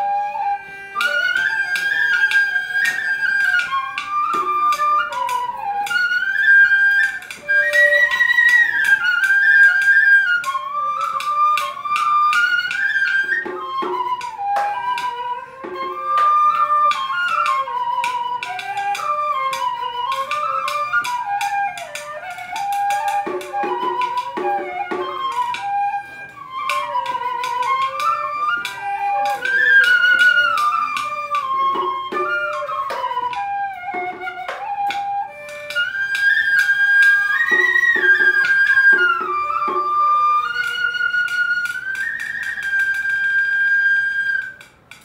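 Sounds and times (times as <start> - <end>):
bamboo flute melody: 0.0 - 45.0.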